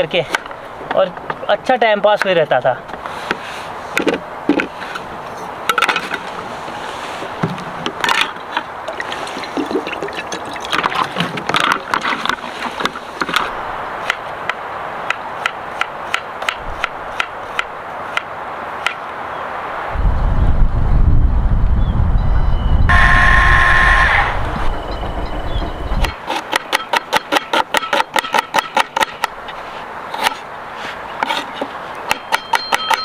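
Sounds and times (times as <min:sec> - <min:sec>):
rushing background noise: 0:00.0 - 0:33.0.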